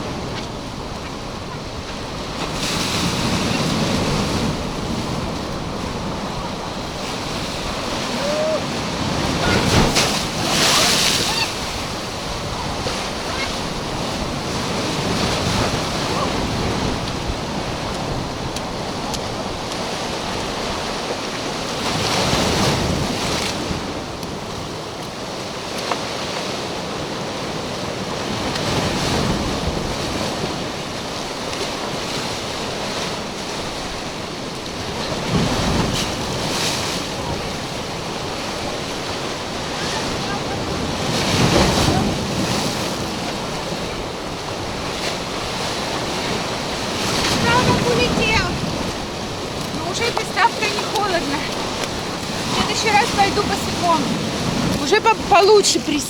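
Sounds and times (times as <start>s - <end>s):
surf washing onto shore: 0.0s - 56.0s
wind buffeting microphone: 0.0s - 56.0s.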